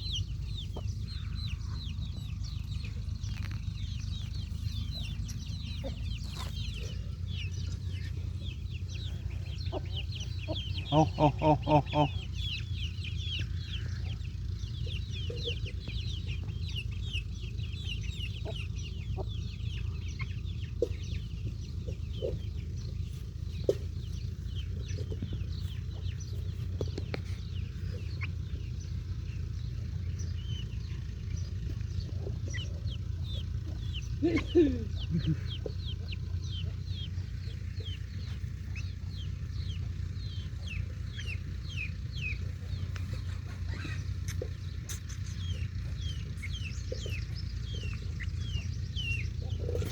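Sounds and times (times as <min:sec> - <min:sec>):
baby chicks peeping: 0:00.0 - 0:49.9
steady low hum: 0:00.0 - 0:49.9.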